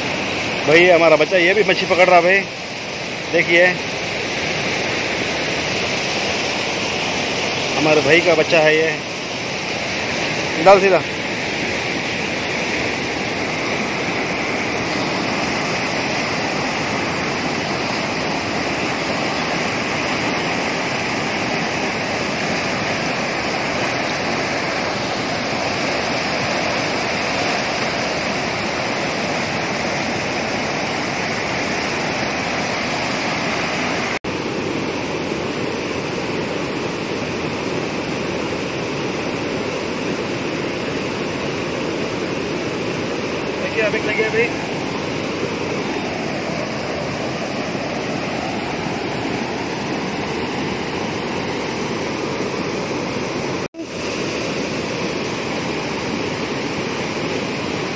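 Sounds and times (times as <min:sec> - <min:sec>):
floodwater rushing over weir: 0:00.0 - 0:57.9.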